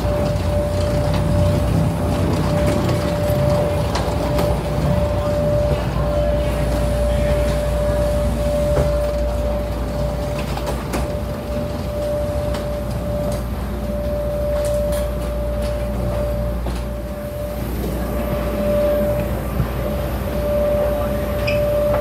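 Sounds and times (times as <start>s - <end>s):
machinery drone with high whine: 0.0s - 22.0s.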